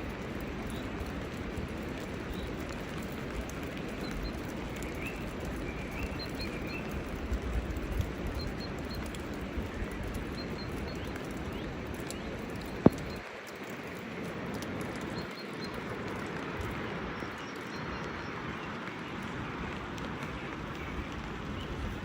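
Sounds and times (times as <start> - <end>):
rain patter and hiss: 0.0 - 22.0.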